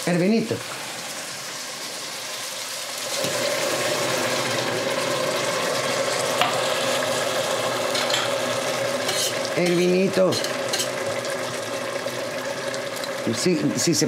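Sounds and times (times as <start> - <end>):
food sizzling in a pot: 0.0 - 14.0
wine pouring into hot pot: 0.6 - 14.0.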